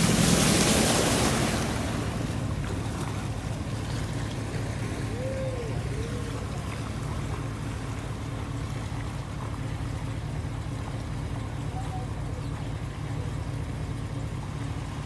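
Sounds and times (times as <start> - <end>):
floodwater sloshing: 0.0 - 15.0.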